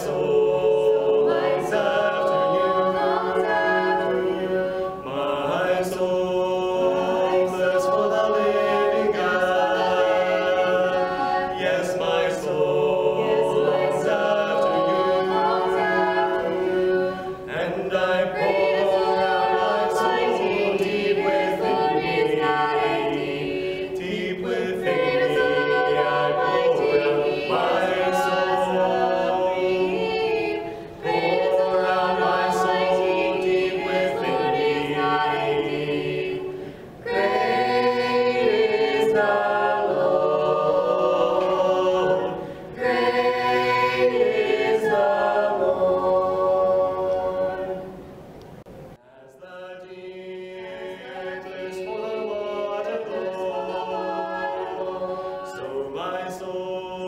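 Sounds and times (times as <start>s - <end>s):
vocal quartet singing a hymn: 0.0s - 57.0s.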